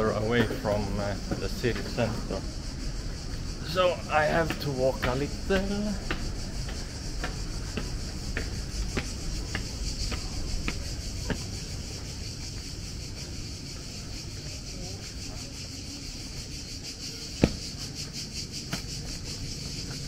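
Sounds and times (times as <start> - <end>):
cicadas buzzing: 0.0 - 20.0
footsteps on stone paving: 0.0 - 20.0.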